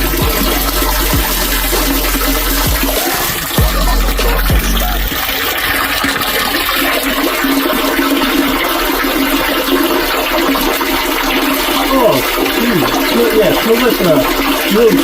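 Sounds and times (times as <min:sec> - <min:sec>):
water rushing in a drain: 0:00.0 - 0:15.0.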